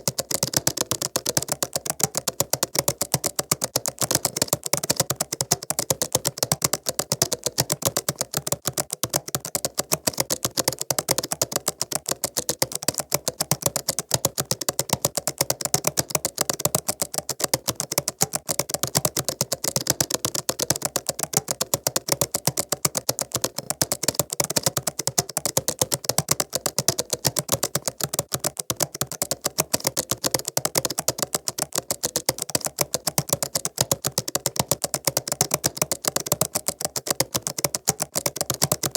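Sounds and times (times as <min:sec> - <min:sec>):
laptop keyboard typing: 0:00.0 - 0:38.9.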